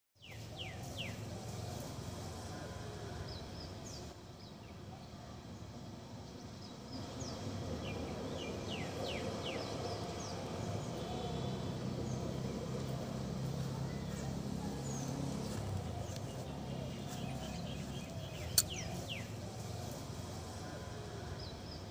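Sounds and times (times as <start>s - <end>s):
outdoor background noise: 0.2s - 21.9s
small birds chirping: 0.2s - 21.9s.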